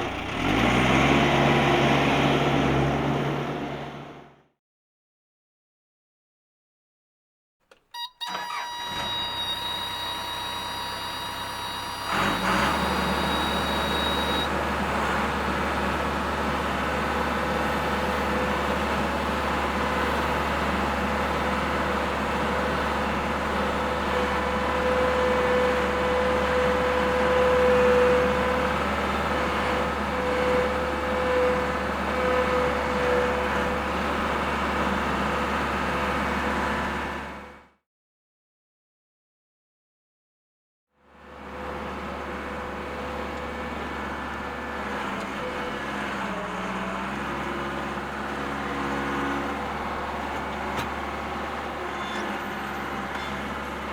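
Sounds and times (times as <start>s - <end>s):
loader engine running: 0.0s - 4.4s, 8.0s - 37.6s, 41.3s - 53.9s.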